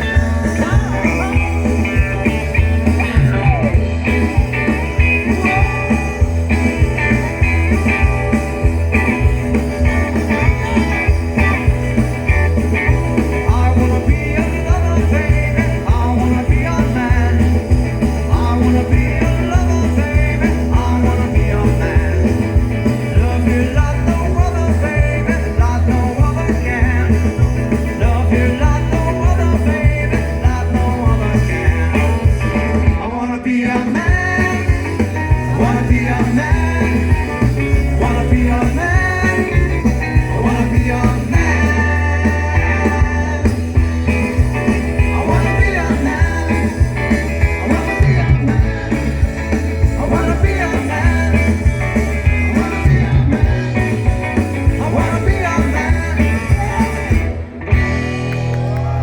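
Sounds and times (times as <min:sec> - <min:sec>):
lead vocal singing: 0:00.0 - 0:57.6
live rock and roll band: 0:00.0 - 0:59.0.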